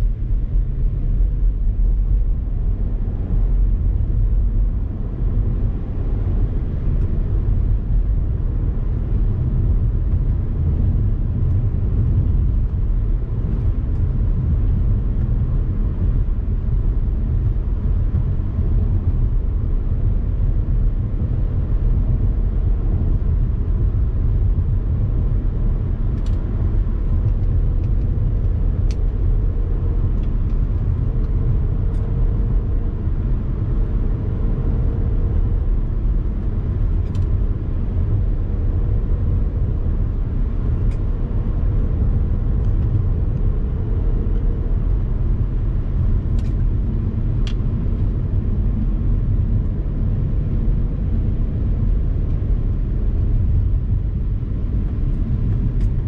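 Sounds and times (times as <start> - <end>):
road and wind noise rumble: 0.0 - 56.0.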